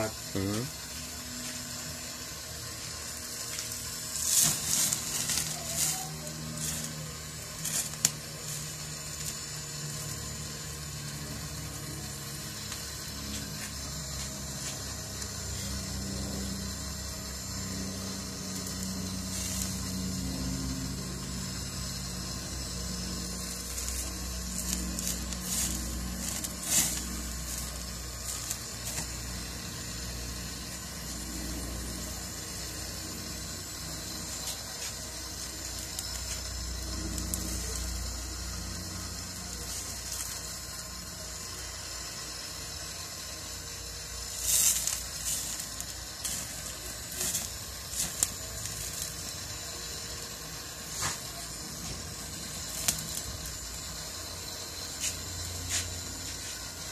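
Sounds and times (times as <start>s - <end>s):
meat sizzling on a grill: 0.0s - 56.9s
sharp crackles and pops: 0.5s - 56.7s.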